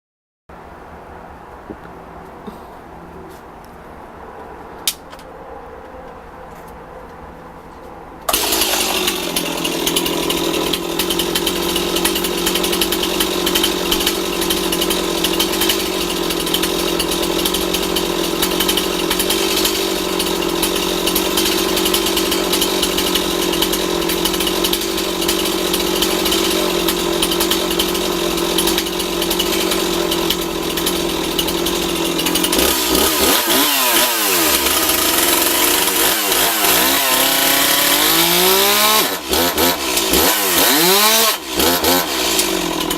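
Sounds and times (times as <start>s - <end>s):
chainsaw idling and revving: 8.2s - 42.9s.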